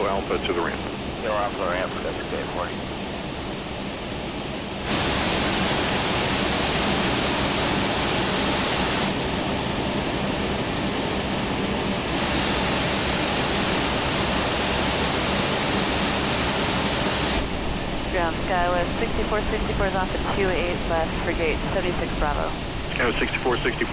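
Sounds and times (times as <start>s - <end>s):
low hum: 0.0s - 23.9s
aircraft cockpit rushing noise: 4.5s - 23.9s.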